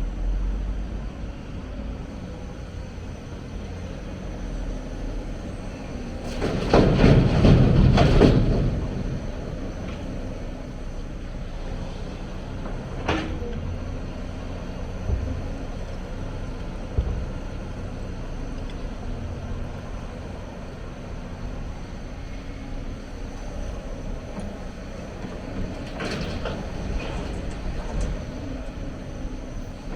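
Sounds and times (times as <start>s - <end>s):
excavator diesel engine droning: 0.0s - 29.9s.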